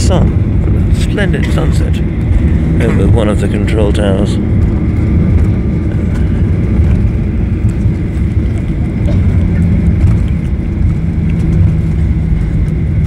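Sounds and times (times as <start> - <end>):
airplane wheels and engines rumbling: 0.0 - 13.0
faint steady hum: 0.0 - 13.0.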